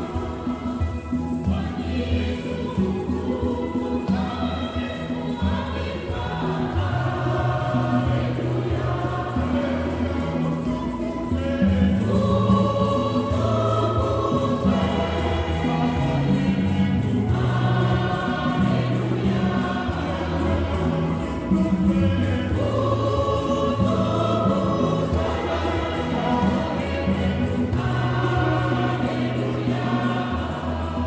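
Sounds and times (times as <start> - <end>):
choir singing a hymn: 0.0 - 31.0.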